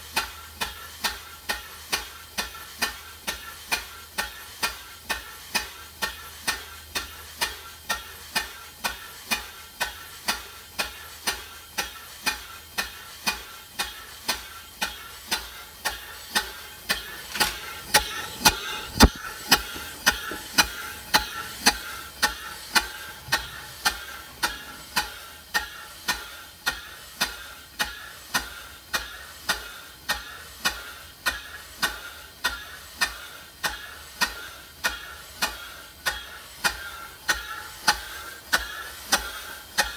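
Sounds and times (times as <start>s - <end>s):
steam engine exhaust beats: 0.0s - 39.9s
hiss of air: 0.1s - 39.9s.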